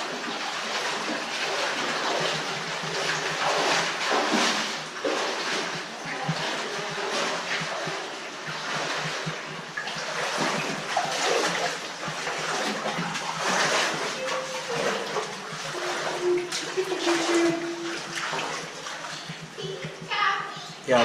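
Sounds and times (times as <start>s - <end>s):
cave stream rushing and splashing: 0.0s - 21.0s.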